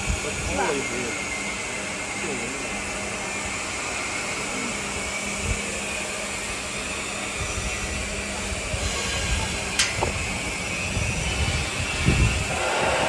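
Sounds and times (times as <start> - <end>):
machinery running: 0.0 - 13.0.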